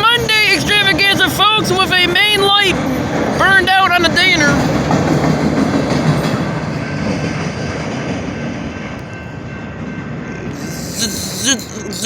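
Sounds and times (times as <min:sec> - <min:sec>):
train cars rumbling and clattering: 0:00.0 - 0:12.0.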